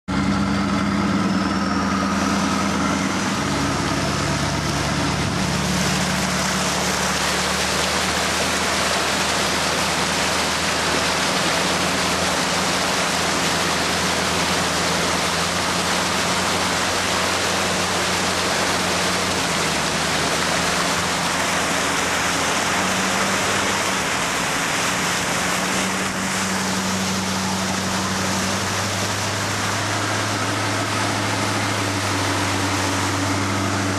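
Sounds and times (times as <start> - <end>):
truck engine humming: 0.1 - 33.9
water rushing and splashing: 0.1 - 33.9.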